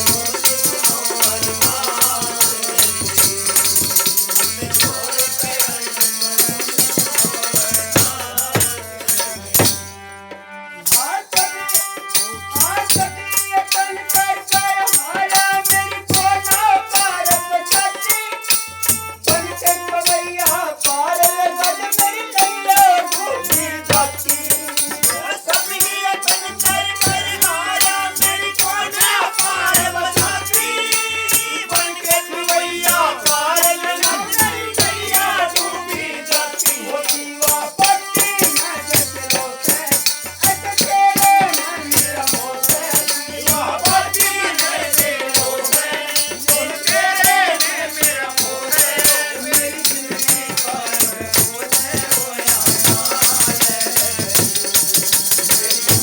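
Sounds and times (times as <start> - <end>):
jingling rattle percussion: 0.0 - 10.2, 10.8 - 56.0.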